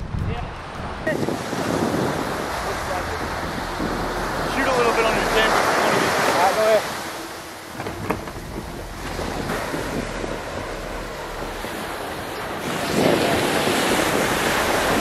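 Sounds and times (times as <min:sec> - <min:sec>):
waves washing in surf: 0:00.0 - 0:15.0
wind rumbling on microphone: 0:00.0 - 0:15.0.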